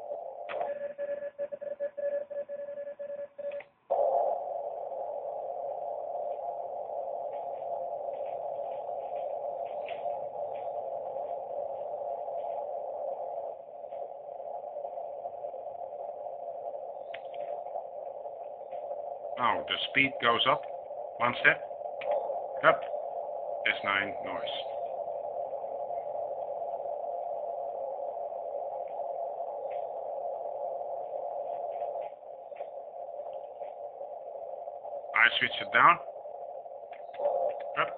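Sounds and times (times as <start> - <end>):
radio receiver hiss: 0.0 - 37.9.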